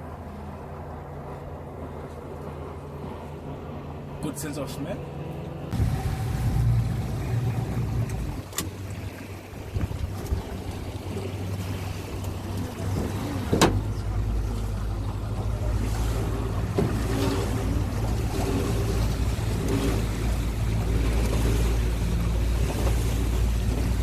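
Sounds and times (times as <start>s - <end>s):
boat engine rumbling: 0.0s - 24.0s
water noise: 0.0s - 24.0s
wind: 0.0s - 24.0s.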